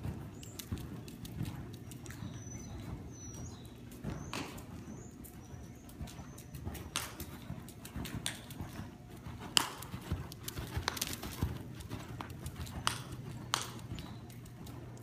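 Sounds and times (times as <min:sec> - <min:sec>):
horse hoofbeats on sand: 0:00.0 - 0:15.0
low steady hum: 0:00.0 - 0:15.0.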